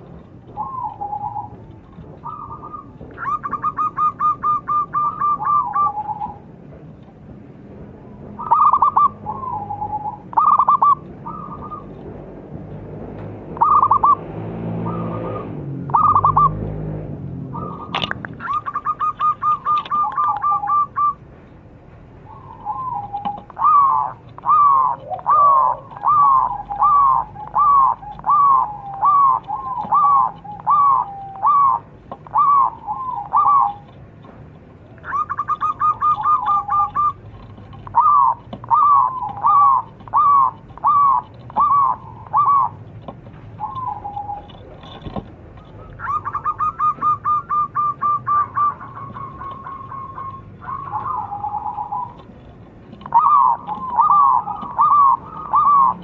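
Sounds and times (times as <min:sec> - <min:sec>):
dove trilling and cooing: 0:00.0 - 0:06.8, 0:08.2 - 0:12.5, 0:13.4 - 0:21.2, 0:22.2 - 0:56.0.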